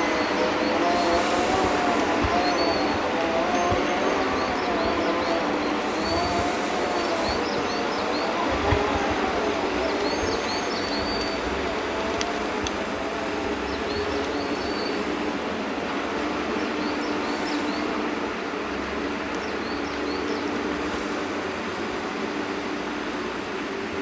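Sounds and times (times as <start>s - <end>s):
small birds chirping: 0.0s - 15.4s, 16.3s - 20.8s
diesel machine engine whining: 0.0s - 24.0s.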